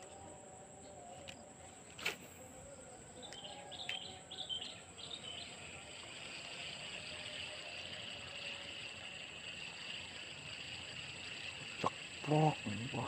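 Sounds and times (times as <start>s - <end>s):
birds chirping: 0.0s - 13.0s
insect buzz: 0.0s - 13.0s.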